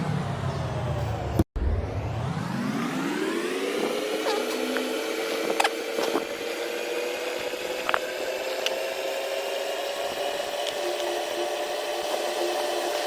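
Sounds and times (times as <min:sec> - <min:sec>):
electric motor humming: 0:02.4 - 0:13.0.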